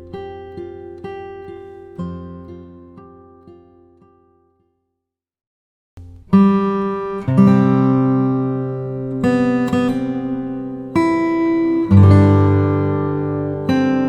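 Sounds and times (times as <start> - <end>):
acoustic guitar strummed chords: 0.0 - 4.7, 6.0 - 14.0.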